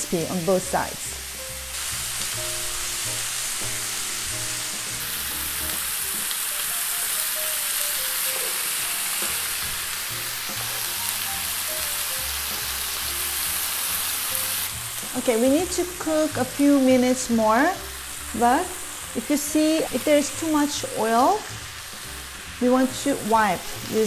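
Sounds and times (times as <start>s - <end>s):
pork sizzling in hot oil: 0.0s - 24.0s.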